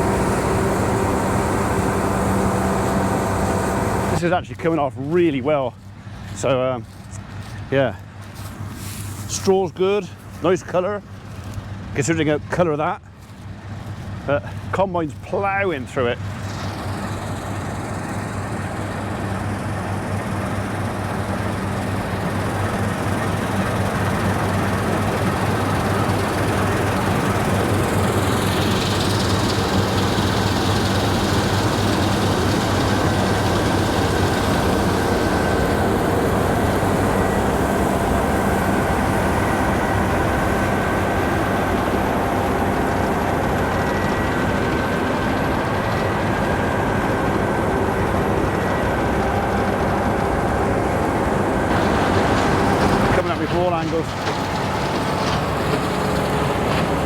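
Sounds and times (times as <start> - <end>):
diesel machinery engines running: 0.0 - 57.0.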